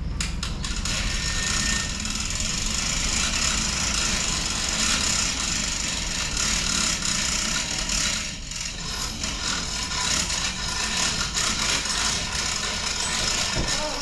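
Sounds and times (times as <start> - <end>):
rattle: 0.0 - 14.0
vehicle engine running: 0.0 - 14.0.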